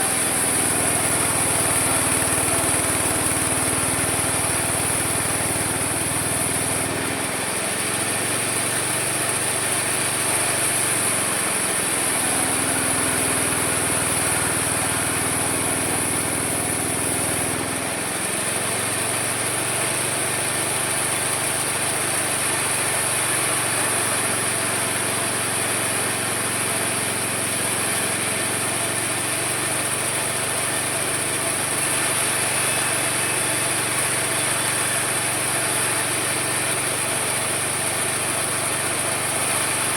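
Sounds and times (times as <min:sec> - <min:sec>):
sawmill sawing wood: 0:00.0 - 0:39.9.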